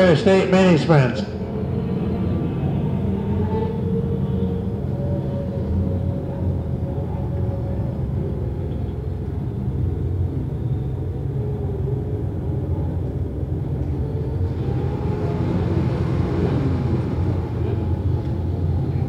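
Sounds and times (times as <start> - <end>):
racing car engines rumbling: 0.0 - 19.0.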